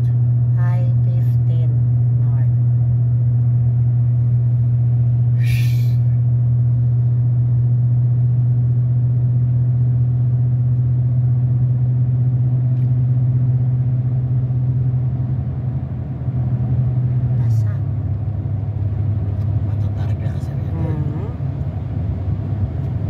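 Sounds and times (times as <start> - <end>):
road and tyre noise in car: 3.4 - 23.0.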